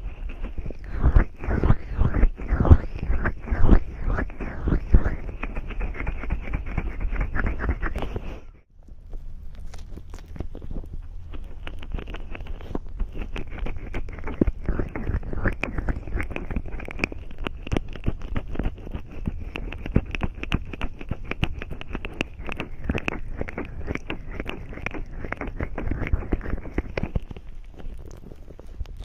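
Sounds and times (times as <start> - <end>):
fingers rubbing cream on microphone: 0.0 - 8.6, 9.8 - 29.0.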